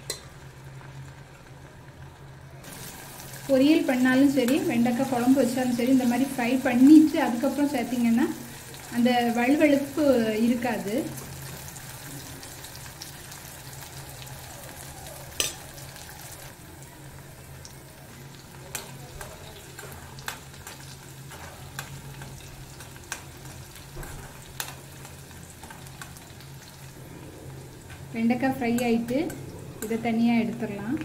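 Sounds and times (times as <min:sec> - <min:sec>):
okra sizzling in hot oil: 0:00.0 - 0:31.0.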